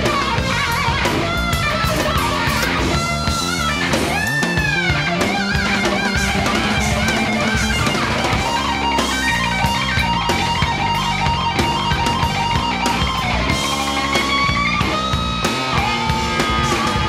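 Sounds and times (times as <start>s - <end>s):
heavy rock instrumental music: 0.0s - 17.0s.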